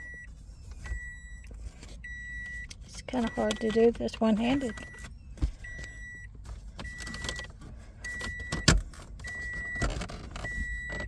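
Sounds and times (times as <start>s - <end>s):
car warning chime beeping: 0.0s - 11.0s.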